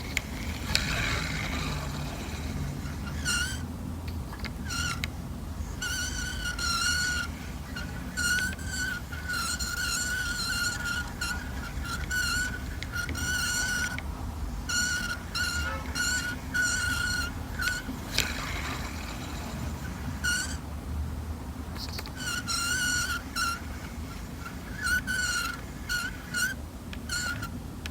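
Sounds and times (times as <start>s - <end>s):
fishing reel gears whining: 0.0s - 27.6s.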